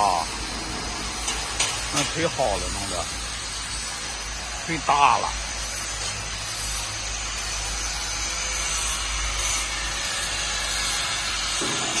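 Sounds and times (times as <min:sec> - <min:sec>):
machine hiss: 0:00.0 - 0:12.0.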